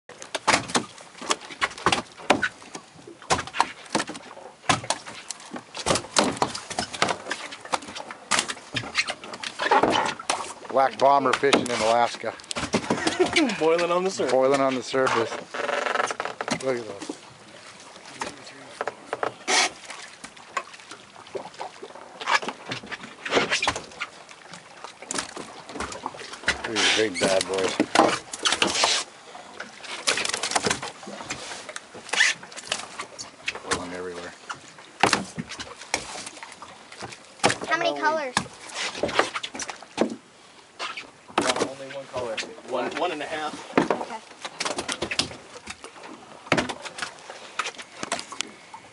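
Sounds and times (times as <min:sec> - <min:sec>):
small water splashes: 0:00.1 - 0:48.9.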